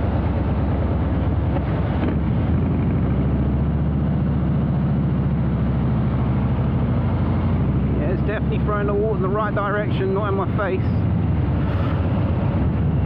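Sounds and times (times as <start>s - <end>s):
motorcycle engine rumbling: 0.0s - 13.0s
wind: 0.0s - 13.0s.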